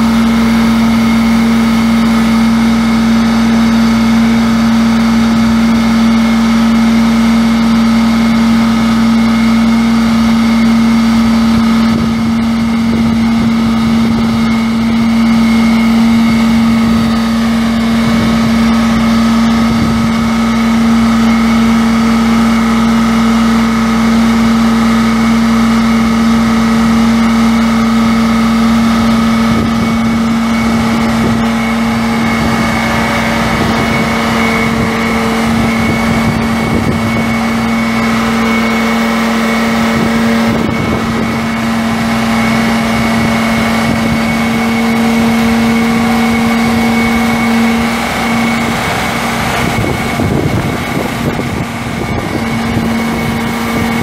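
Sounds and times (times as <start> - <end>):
diesel truck engine running: 0.0 - 54.0
strong even whine: 0.0 - 54.0.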